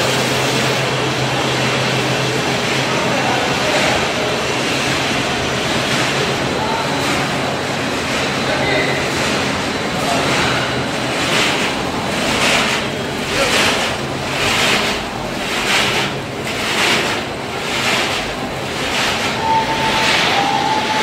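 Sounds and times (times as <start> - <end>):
snacks tumbling in a rotating drum: 2.7 - 21.0.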